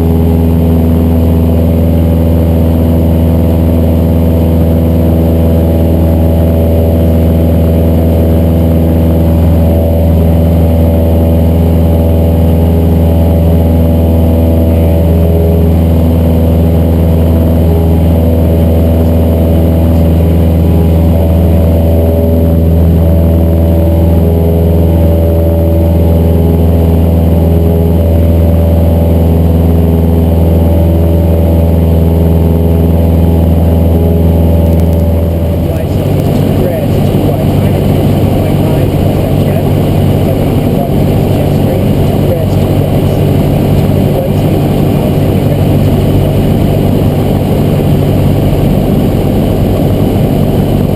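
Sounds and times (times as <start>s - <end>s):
light aircraft engine drone: 0.0s - 50.9s.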